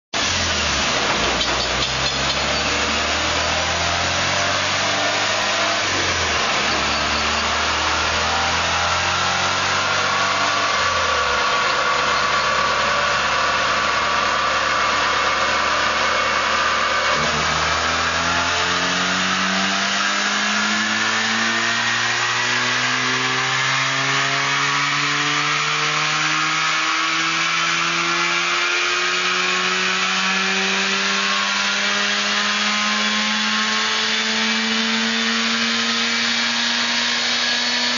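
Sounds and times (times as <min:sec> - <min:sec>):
rotary engine revving on dyno: 0:00.2 - 0:37.9.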